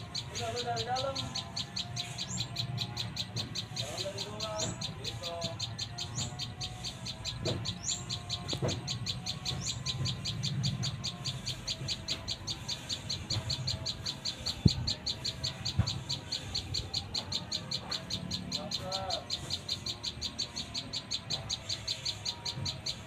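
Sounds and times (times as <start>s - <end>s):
fast series of high chirps: 0.0s - 23.0s
rising bird chirps: 0.0s - 23.0s.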